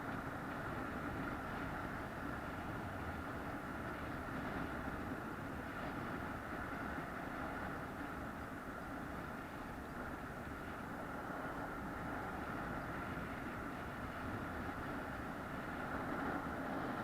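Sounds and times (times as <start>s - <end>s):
moving vehicle drone: 0.0s - 17.0s.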